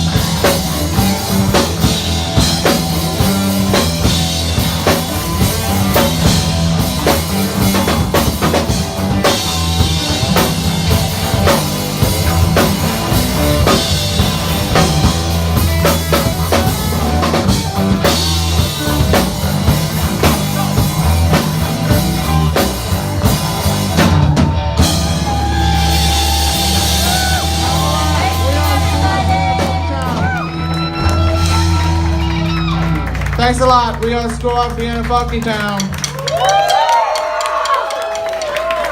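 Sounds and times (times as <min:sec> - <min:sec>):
guitar bending notes: 0:00.0 - 0:36.5
heavy bass: 0:00.0 - 0:37.1
drum kit beat: 0:00.0 - 0:38.2
funk rock band playing: 0:00.0 - 0:38.8.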